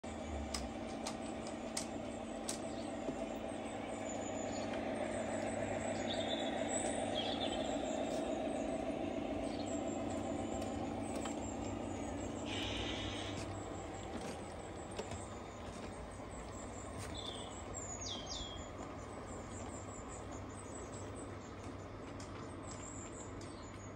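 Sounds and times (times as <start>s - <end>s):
model train motor hum: 0.0s - 23.4s
birds chirping: 0.2s - 23.9s.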